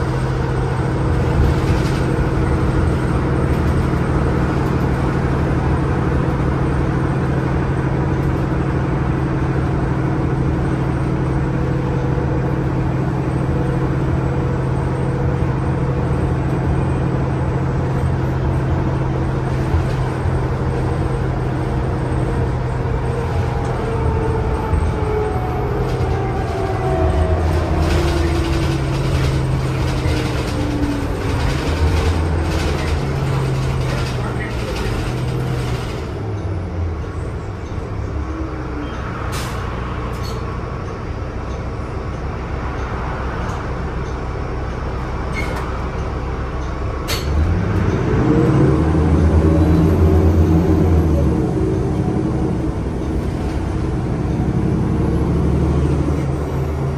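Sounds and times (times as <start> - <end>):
bus engine drone: 0.0 - 56.9.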